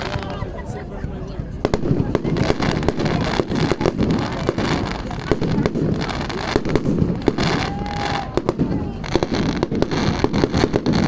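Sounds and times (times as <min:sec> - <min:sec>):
fireworks bangs and crackles: 0:00.0 - 0:11.0
rumble of firework bursts: 0:00.0 - 0:11.0.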